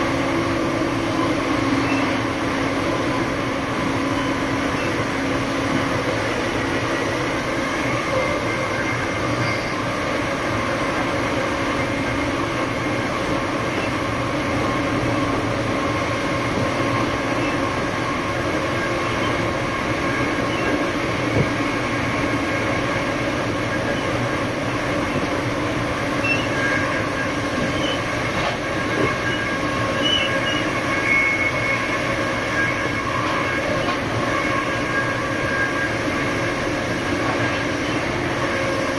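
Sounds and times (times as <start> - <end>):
diesel locomotive engine running: 0.0 - 38.9
rail noise: 0.0 - 38.9.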